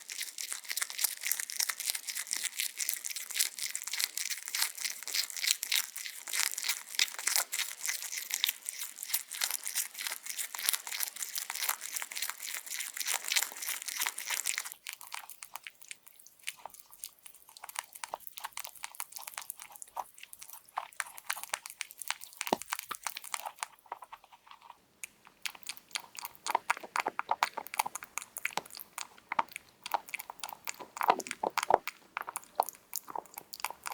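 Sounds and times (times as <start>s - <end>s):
rabbit crunching vegetables: 0.0s - 33.9s.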